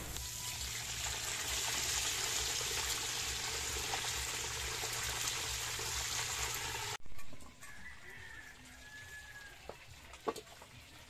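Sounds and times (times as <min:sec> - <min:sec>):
food deep-frying in oil: 0:00.0 - 0:07.0, 0:08.4 - 0:11.0.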